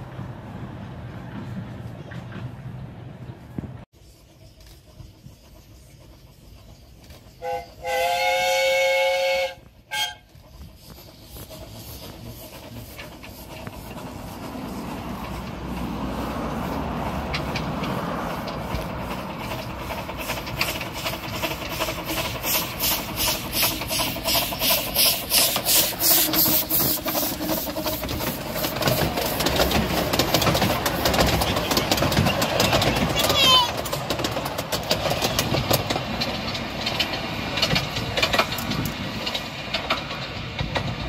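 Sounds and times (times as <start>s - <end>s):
carriages rumbling past: 0.0s - 41.0s
steam locomotive chuffing: 0.0s - 41.0s.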